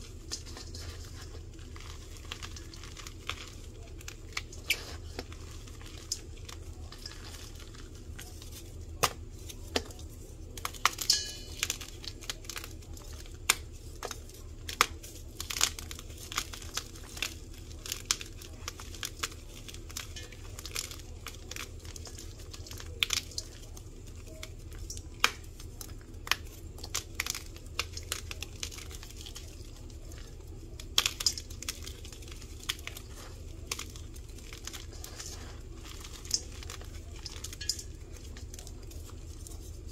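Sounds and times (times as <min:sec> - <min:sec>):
chalk blocks crunching in metal bowl: 0:00.0 - 0:39.9
faint low hum: 0:00.0 - 0:39.9.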